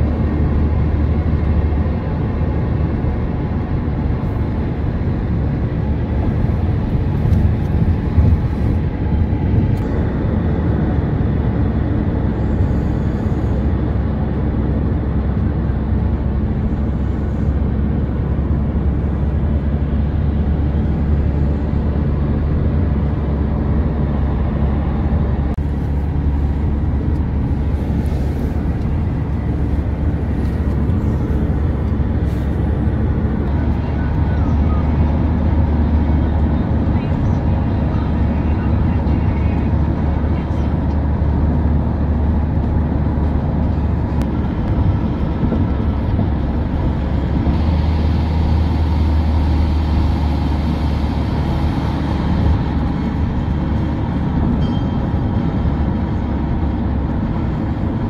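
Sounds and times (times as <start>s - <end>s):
car interior road rumble: 0.0s - 58.0s.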